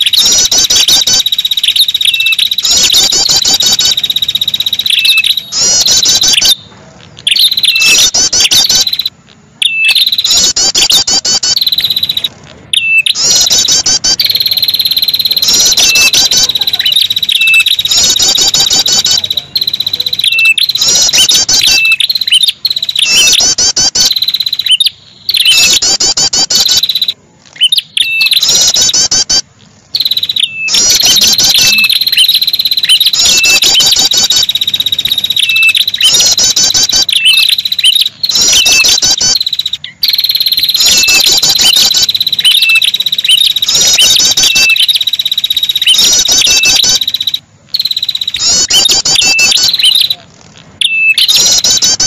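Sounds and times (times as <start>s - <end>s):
bird lure call chirps and trills: 0.0s - 52.0s.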